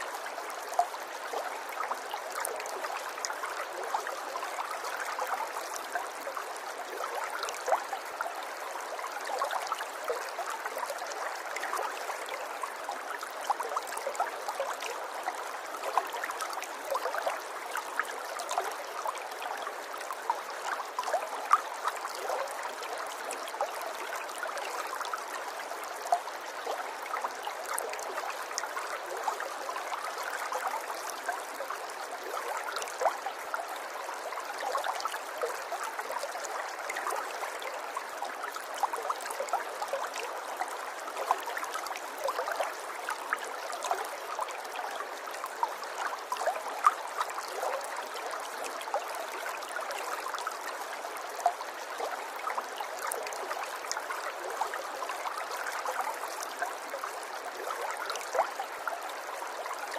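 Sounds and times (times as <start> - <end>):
river babbling over stones: 0.0 - 59.9.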